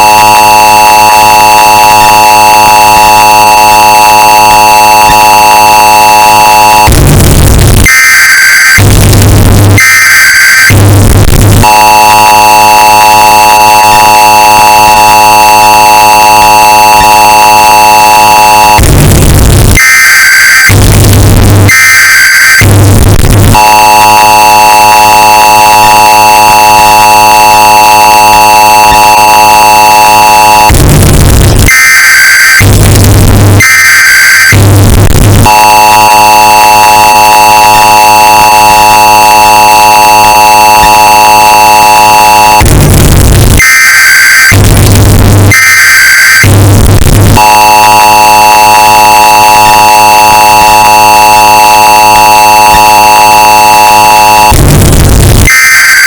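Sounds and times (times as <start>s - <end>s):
buzzing data-tone bursts: 0.0s - 54.9s
distorted two-tone alert signal: 0.0s - 54.9s.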